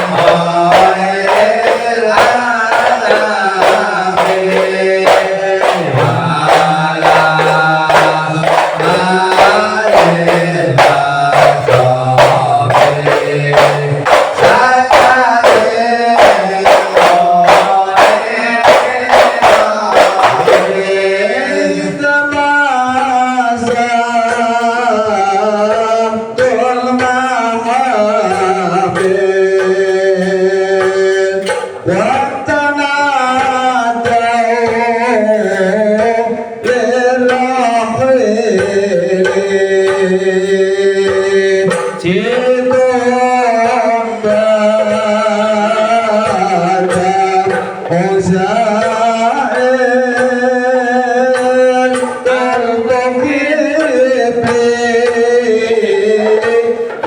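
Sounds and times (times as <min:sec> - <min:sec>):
hand-drum percussion: 0:00.0 - 0:57.0.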